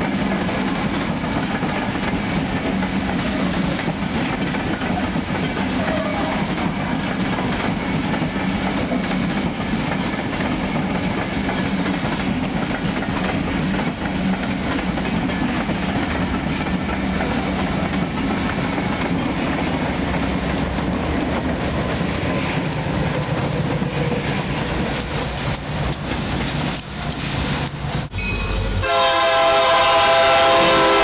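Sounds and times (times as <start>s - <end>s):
diesel locomotive engines droning: 0.0s - 31.0s
train wheels rumbling on rails: 0.0s - 31.0s.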